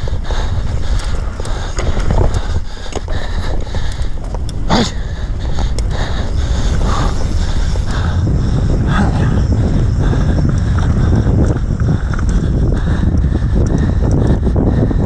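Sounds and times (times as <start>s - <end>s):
bike rattling and knocking: 0.0s - 15.0s
bike tyre noise: 0.0s - 15.0s
wind buffeting microphone: 0.0s - 15.0s.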